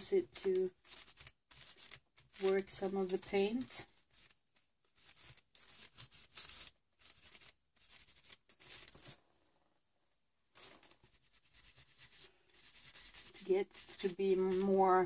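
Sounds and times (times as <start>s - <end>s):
fingertips rubbing paint on paper: 0.6s - 9.2s, 10.6s - 15.0s.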